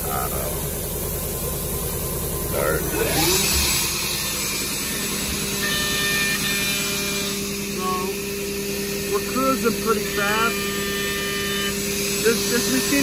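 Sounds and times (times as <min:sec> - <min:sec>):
mill spindle cutting tone: 0:00.0 - 0:13.0.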